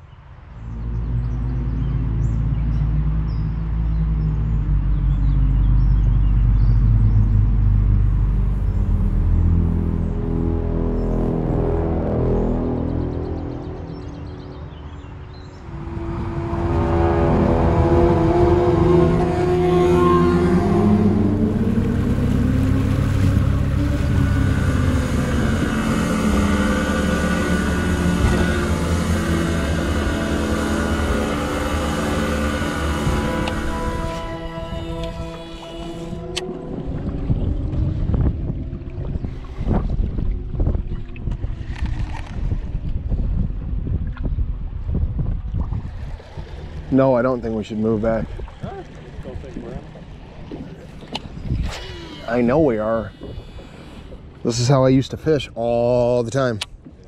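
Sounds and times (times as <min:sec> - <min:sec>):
rushing wind: 0:00.0 - 0:56.0
low droning music: 0:00.0 - 0:57.0
vehicle engine rumble: 0:00.0 - 0:57.0.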